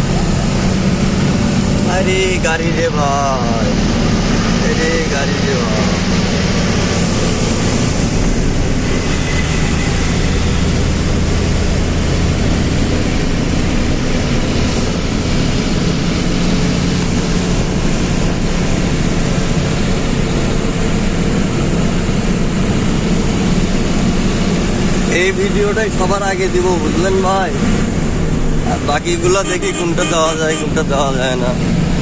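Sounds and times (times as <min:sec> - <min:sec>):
road noise: 0:00.0 - 0:32.0
truck engine drone: 0:00.0 - 0:32.0.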